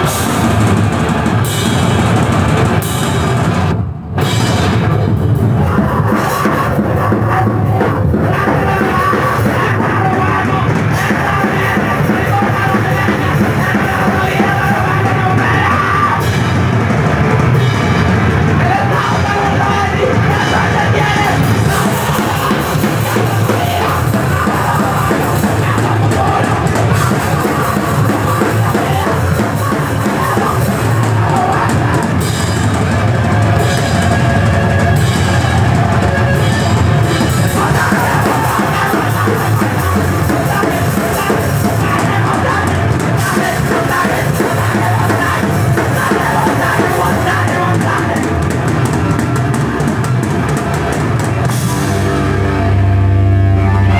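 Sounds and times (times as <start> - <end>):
punk band playing live: 0.0 - 53.9.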